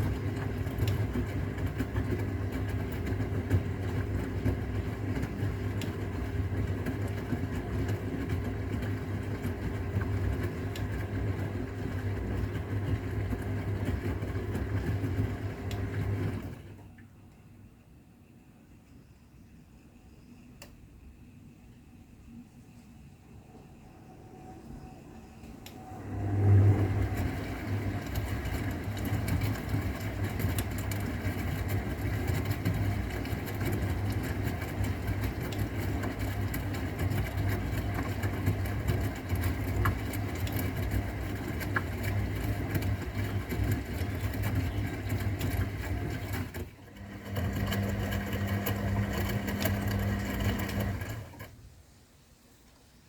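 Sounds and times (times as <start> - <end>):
washing machine motor hum: 0.0 - 51.8.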